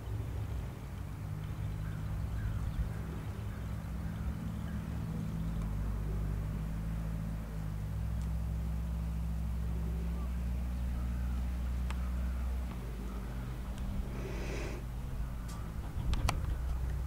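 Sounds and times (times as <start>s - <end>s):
engine idling: 0.0s - 17.0s
faint bird calls: 1.0s - 7.7s, 9.7s - 17.0s.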